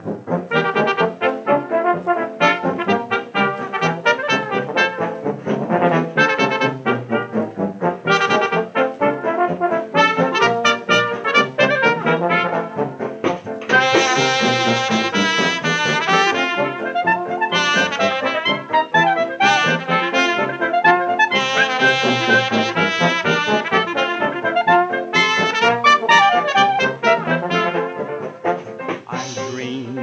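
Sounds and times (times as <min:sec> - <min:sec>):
brass playing quick melody: 0:00.0 - 0:30.0
dance band record: 0:00.0 - 0:30.0.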